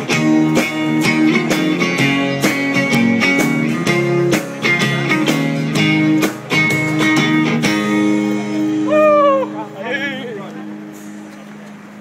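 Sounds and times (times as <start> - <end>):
guitar-led music: 0.0 - 12.0.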